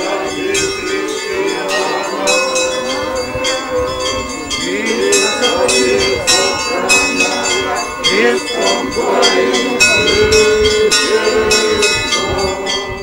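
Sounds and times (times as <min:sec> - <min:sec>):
church bells ringing: 0:00.0 - 0:13.0
people's voices: 0:00.0 - 0:13.0.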